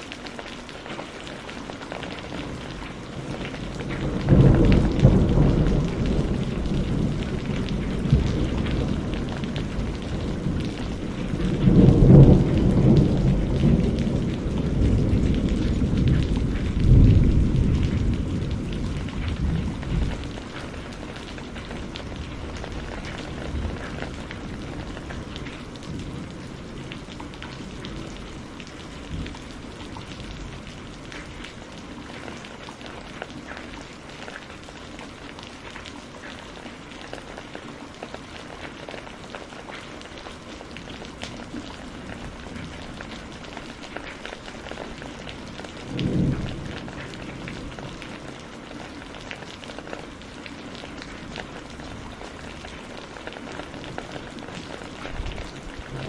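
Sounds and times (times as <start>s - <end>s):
steady rain falling: 0.0s - 56.0s
low thunder rumbling: 2.1s - 33.2s, 40.6s - 56.0s.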